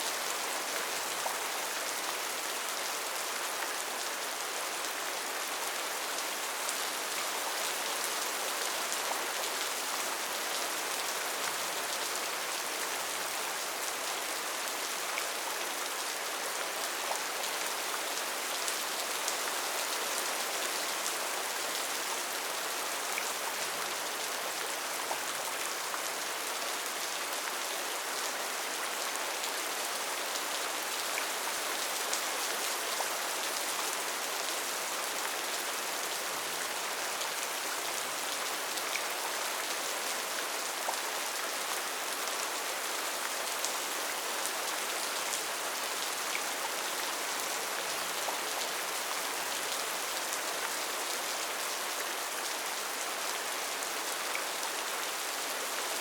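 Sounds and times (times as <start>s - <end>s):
rain falling on foliage: 0.0s - 56.0s.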